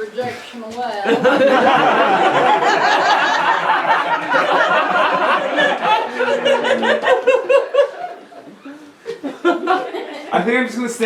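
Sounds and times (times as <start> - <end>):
audience laughing: 1.0 - 10.4.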